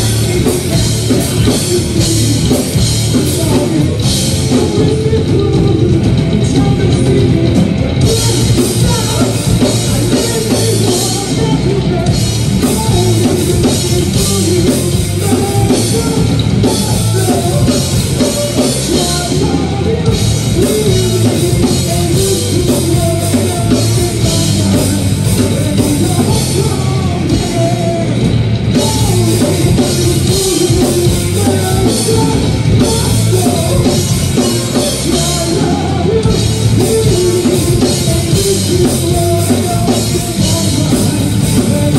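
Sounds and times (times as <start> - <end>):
bass guitar: 0.0 - 41.9
drum kit: 0.0 - 41.9
electric guitars: 0.0 - 41.9
male singer: 0.0 - 41.9.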